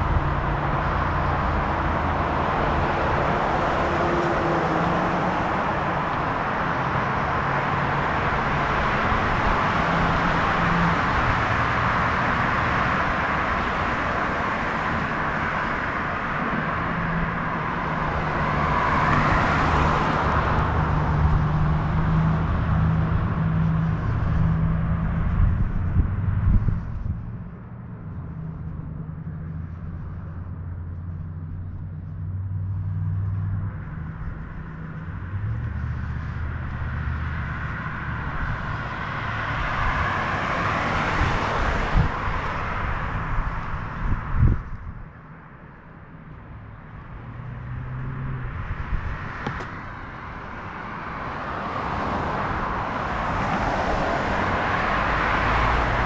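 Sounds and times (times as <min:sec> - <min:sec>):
low engine hum: 0:00.0 - 0:56.0
vehicles passing: 0:00.0 - 0:56.0.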